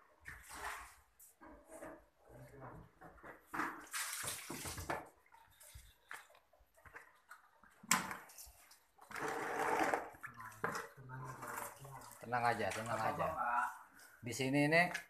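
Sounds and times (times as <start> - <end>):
water pouring and splashing: 0.0 - 1.4, 3.3 - 14.2.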